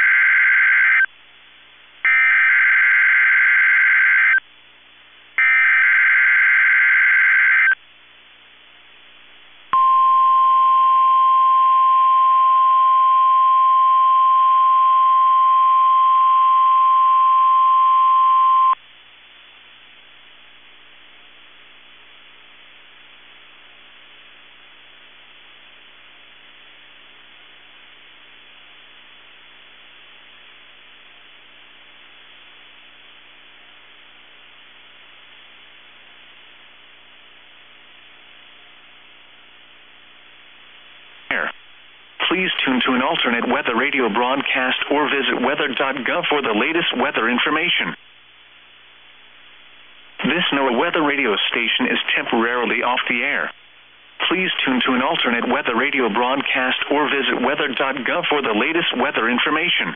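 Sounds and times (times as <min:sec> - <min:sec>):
faint radio hiss: 0:00.0 - 0:02.8, 0:03.8 - 0:05.6, 0:07.5 - 0:59.9.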